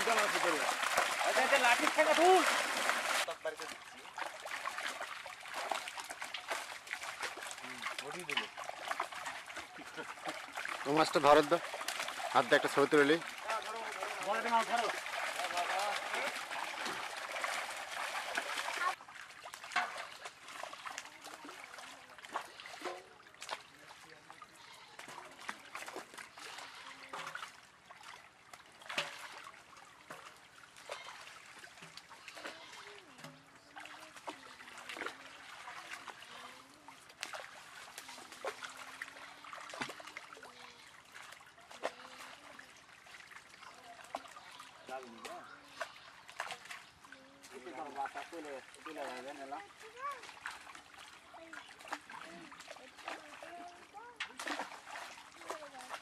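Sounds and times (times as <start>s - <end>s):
fish thrashing and splashing: 0.0s - 56.0s
water trickling: 0.0s - 56.0s.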